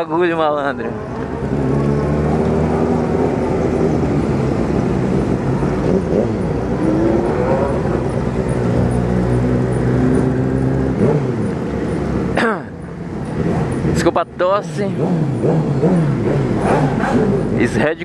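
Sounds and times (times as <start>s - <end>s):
other motorcycle engines: 0.0s - 18.0s
motorcycle engine running: 1.1s - 17.9s.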